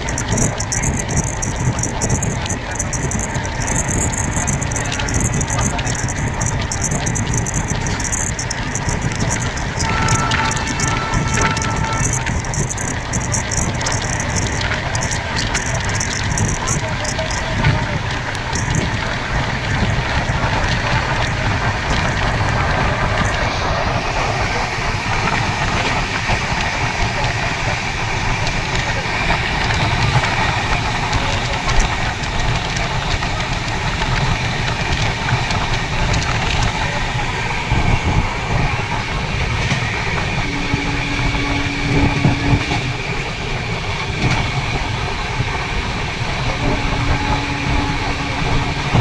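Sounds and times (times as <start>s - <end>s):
train rumble and rush: 0.0s - 49.0s
wheels clicking over rails: 0.0s - 49.0s.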